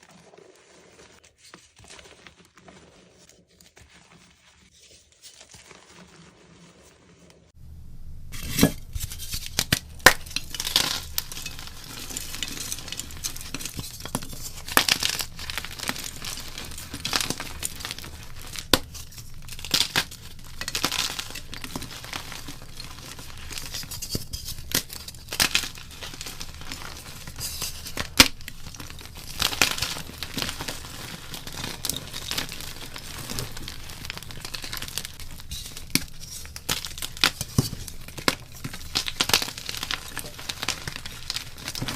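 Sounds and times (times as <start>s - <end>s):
chalk being crushed: 8.3s - 41.9s.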